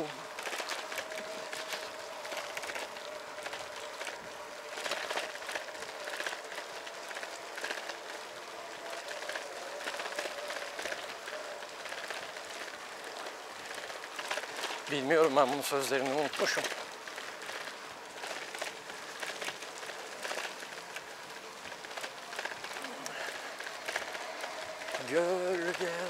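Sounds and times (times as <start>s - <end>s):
bicycle tyres on road: 0.0s - 26.0s.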